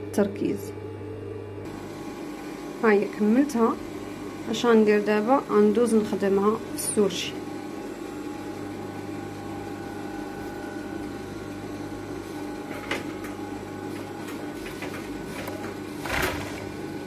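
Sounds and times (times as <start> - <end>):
sewing machine motor hum: 0.8 - 17.0.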